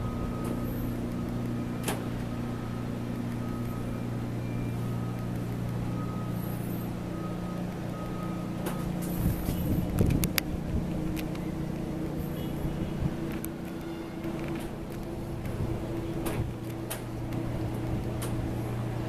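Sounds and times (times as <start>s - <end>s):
ferry engine drone: 0.0s - 19.0s.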